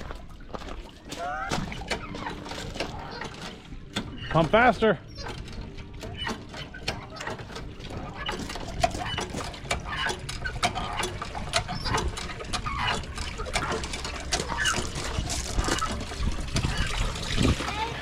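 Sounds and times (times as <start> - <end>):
hand water pump clicking and clacking: 0.0 - 18.0.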